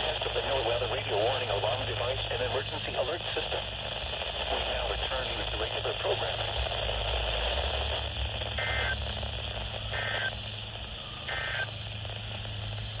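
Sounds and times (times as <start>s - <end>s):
radio hiss and hum: 0.0s - 13.0s.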